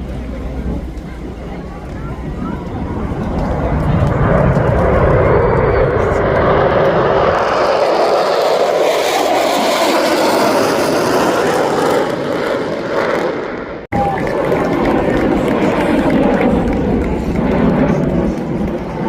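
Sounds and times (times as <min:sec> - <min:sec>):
jet aircraft roaring past: 0:00.0 - 0:19.0.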